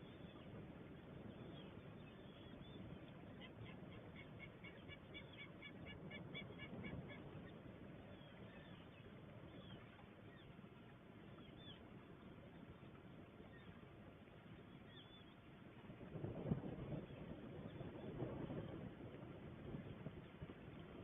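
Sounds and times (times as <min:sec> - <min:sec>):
low background hiss: 0:00.0 - 0:21.0.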